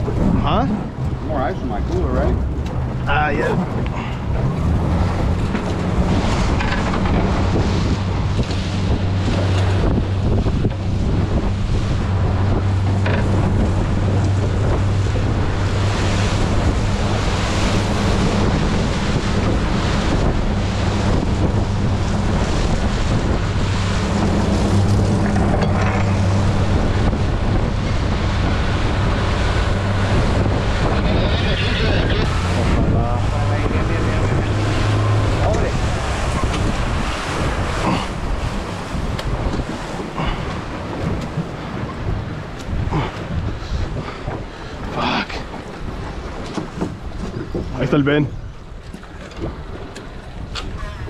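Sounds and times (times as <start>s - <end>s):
outboard motor running: 0.0s - 51.0s
water rushing along hull: 0.0s - 51.0s
wind buffeting microphone: 0.0s - 51.0s.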